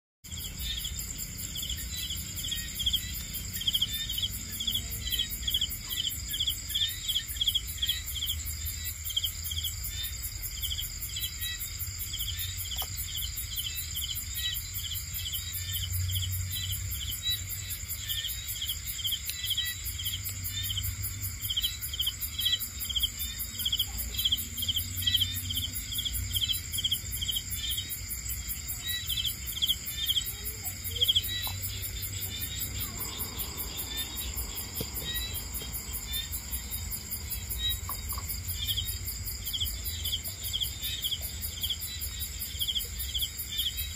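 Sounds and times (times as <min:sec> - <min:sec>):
crickets trilling: 0:00.3 - 0:43.9
rapid insect chirps: 0:00.3 - 0:43.9.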